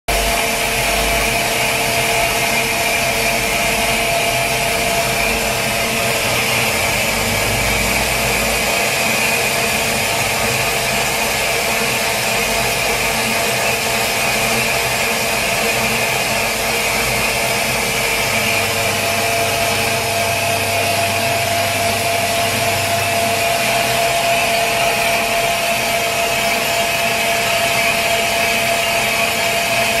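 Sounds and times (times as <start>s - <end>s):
lathe machine whine: 0.1s - 30.0s.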